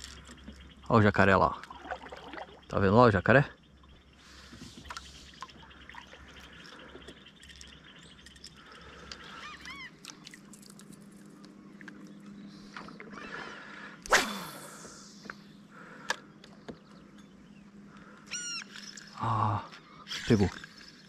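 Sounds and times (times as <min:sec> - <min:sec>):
wild bird calls: 0:00.0 - 0:10.4, 0:11.3 - 0:21.0.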